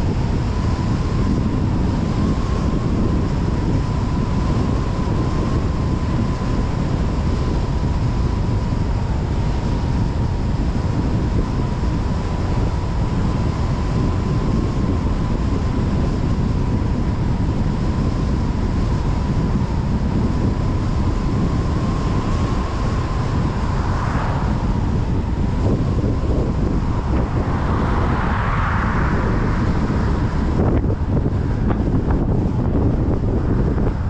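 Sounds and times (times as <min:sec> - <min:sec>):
faint constant whine: 0:00.0 - 0:34.0
road and wind noise: 0:00.0 - 0:34.0.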